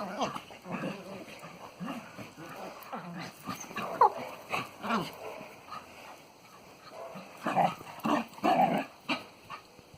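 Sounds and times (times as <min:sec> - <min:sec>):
dogs play growling and yapping: 0:00.0 - 0:09.8.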